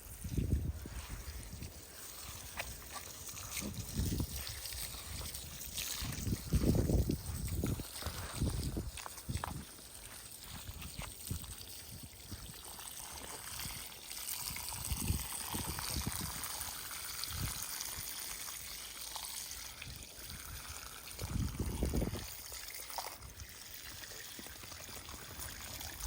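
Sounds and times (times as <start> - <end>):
water pouring from garden hose: 0.0 - 26.0.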